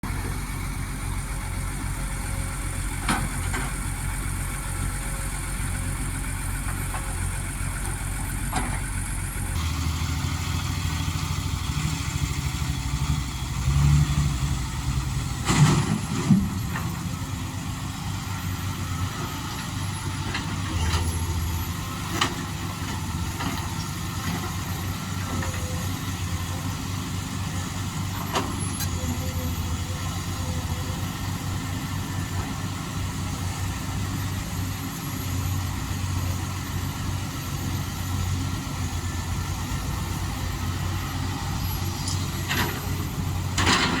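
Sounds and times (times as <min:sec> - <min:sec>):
vehicle engine running: 0:00.0 - 0:43.7.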